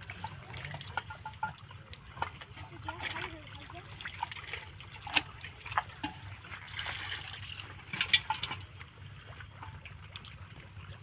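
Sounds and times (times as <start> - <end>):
low steady hum: 0.0 - 11.0
muddy water sloshing and splashing: 0.0 - 11.0.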